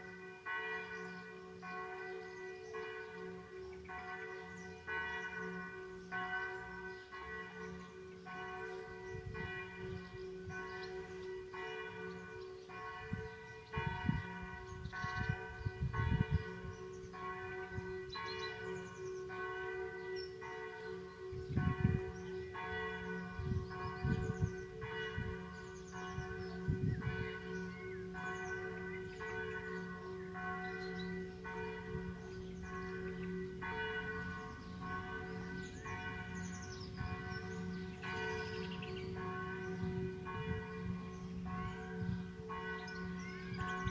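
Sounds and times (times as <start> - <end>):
church bell tolling: 0.0 - 43.9.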